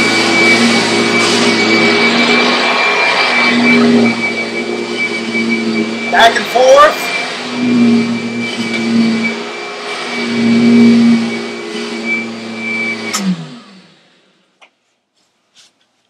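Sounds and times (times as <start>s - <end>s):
vacuum cleaner running: 0.0s - 14.5s.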